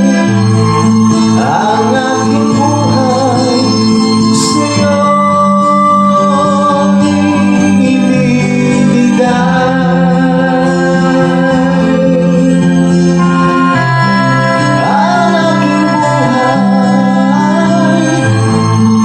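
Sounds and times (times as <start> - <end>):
held chords: 0.0 - 19.0
person singing: 0.0 - 19.0.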